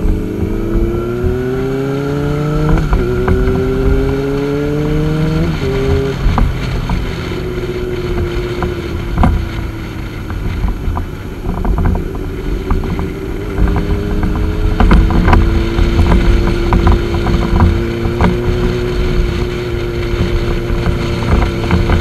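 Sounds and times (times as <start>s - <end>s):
motorcycle engine cruising: 0.0s - 22.0s
wind buffeting microphone: 0.0s - 22.0s.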